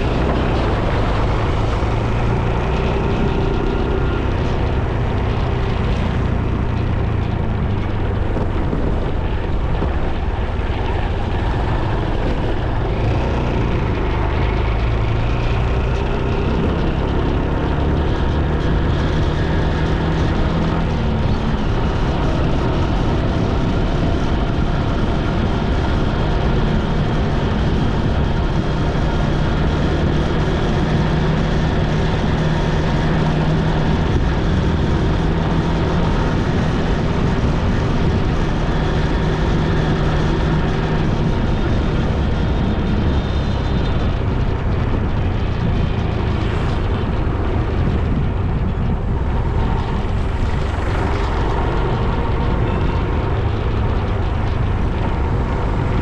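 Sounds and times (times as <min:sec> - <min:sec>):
motorcycle engine running: 0:00.0 - 0:56.0
wind rush and road noise: 0:00.0 - 0:56.0.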